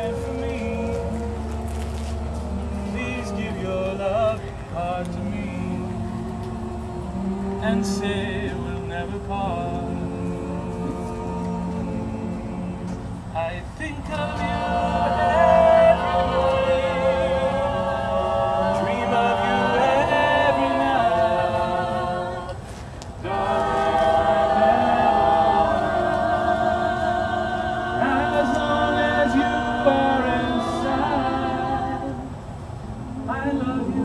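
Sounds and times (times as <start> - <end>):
choir singing a cappella: 0.0 - 34.0.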